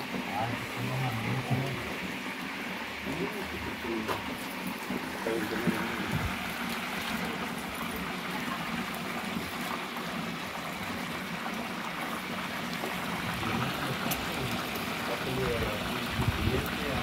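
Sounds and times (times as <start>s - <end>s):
meat frying in hot lard: 0.0s - 17.0s.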